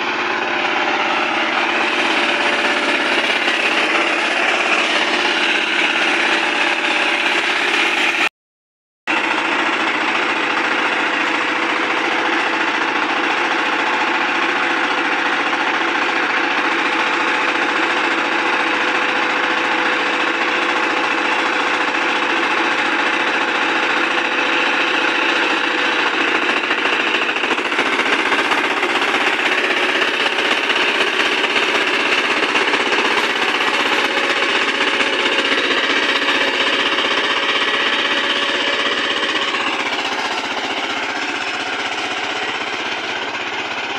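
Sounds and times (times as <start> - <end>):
diesel engine running under load: 0.0 - 8.3, 9.1 - 43.9
rotary tiller working soil: 0.0 - 8.3, 9.1 - 43.9.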